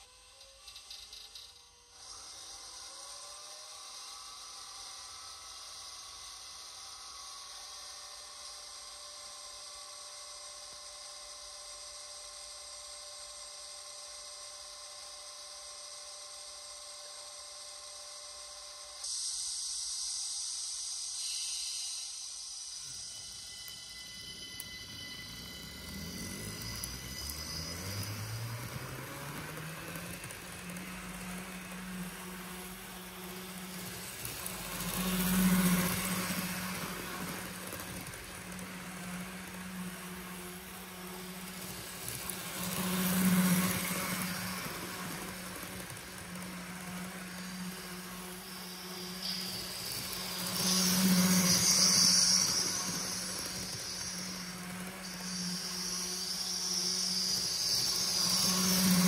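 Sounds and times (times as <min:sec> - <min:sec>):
wheels on track: 0:00.0 - 0:19.0, 0:22.7 - 0:59.0
model train motor whirr: 0:00.0 - 0:20.1, 0:20.7 - 0:59.0
electric train motor hum: 0:00.0 - 0:59.0.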